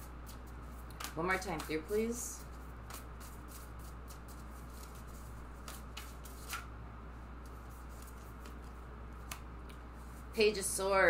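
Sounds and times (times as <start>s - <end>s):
cards being shuffled: 0.2s - 6.7s, 7.4s - 10.3s.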